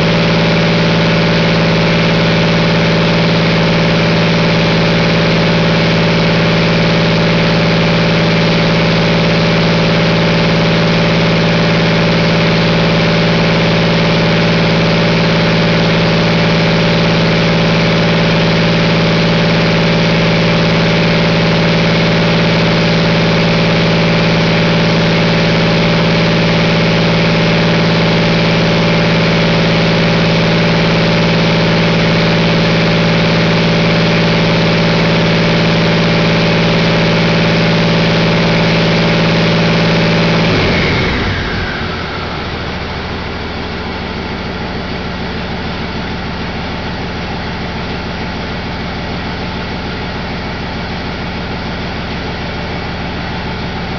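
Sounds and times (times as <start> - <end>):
diesel engine running steadily: 0.0 - 53.9.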